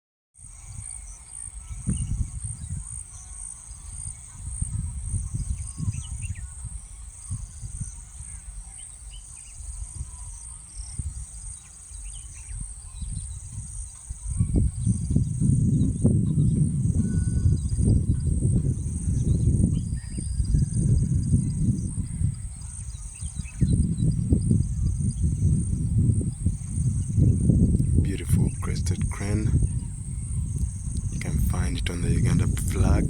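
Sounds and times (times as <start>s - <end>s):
insects buzzing: 0.4s - 33.0s
wind rumbling on microphone: 0.4s - 33.0s
small birds chirping: 0.7s - 33.0s.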